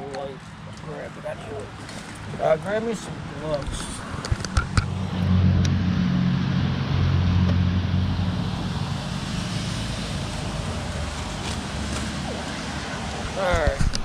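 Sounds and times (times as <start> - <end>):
vehicle engine hum: 0.4 - 14.0.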